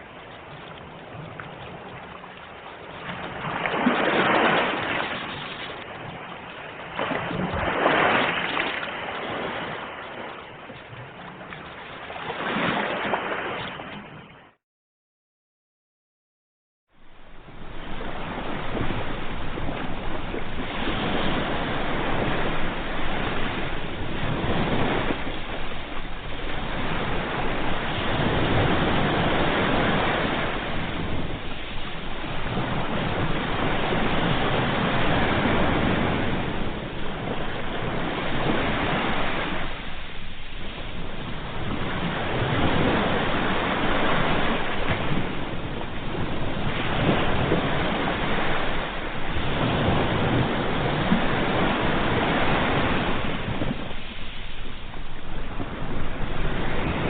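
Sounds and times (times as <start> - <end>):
ocean waves washing in: 0.0 - 14.6, 16.9 - 57.0.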